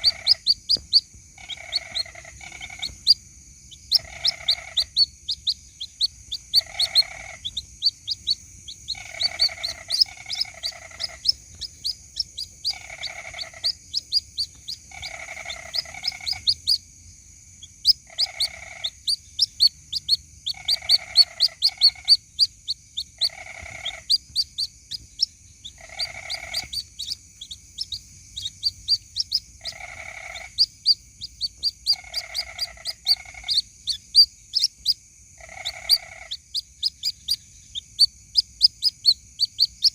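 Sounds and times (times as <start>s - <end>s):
chicks peeping: 0.0s - 16.8s, 17.6s - 35.0s
lower buzzy bird call: 0.0s - 16.9s, 17.6s - 39.9s.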